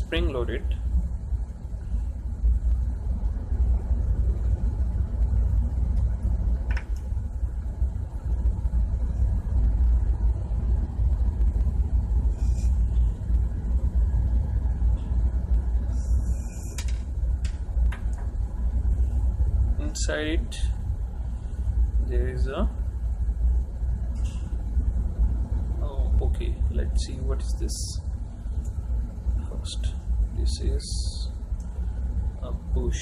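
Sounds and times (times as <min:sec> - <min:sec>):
low rumble of machinery: 0:00.0 - 0:33.0.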